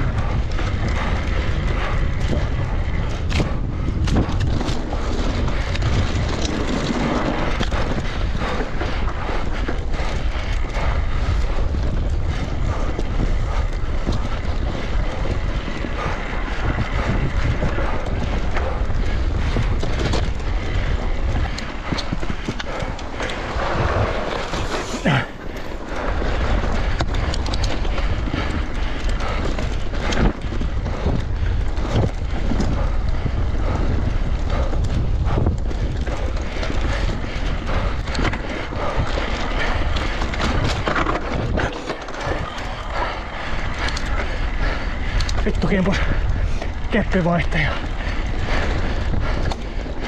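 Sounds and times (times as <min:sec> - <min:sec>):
bike knocking and rattling: 0:00.0 - 0:50.0
bike tyre rumble: 0:00.0 - 0:50.0.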